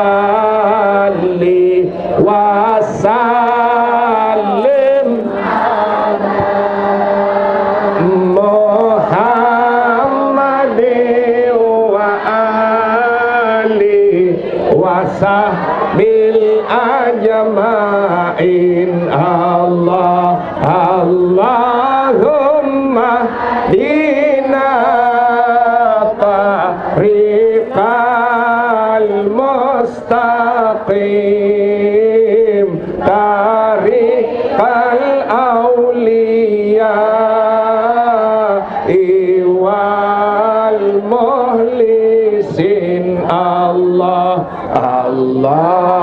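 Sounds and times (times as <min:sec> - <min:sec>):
man chanting into a microphone: 0:00.0 - 0:46.0.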